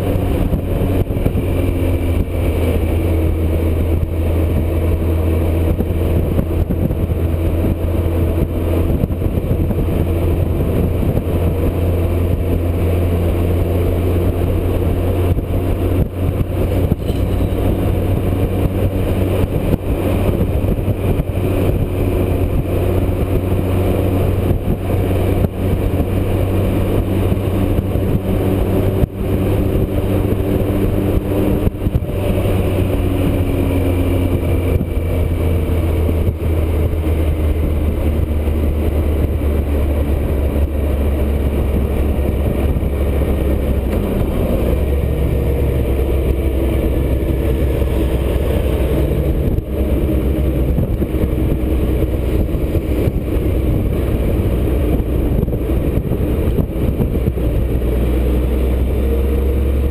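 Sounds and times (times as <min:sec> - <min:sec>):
motorcycle engine cruising: 0:00.0 - 0:59.9
wind rushing: 0:00.0 - 0:59.9.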